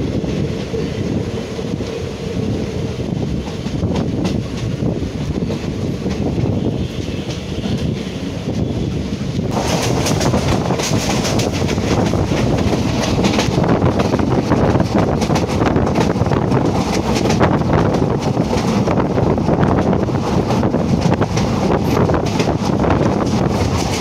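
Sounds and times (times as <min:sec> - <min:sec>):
train wheels clattering: 0:00.0 - 0:24.0
wind on microphone: 0:00.0 - 0:24.0.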